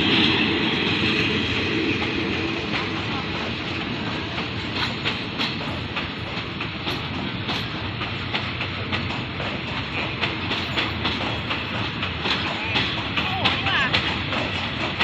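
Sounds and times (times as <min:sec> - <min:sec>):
diesel train rumbling: 0:00.0 - 0:15.0
train wheels clicking over rail joints: 0:00.0 - 0:15.0.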